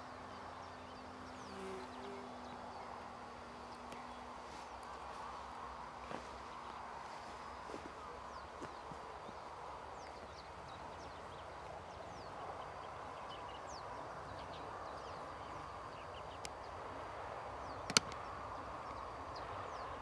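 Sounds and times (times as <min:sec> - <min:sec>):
faint outdoor hiss: 0:00.0 - 0:20.0
small birds chirping: 0:00.0 - 0:20.0.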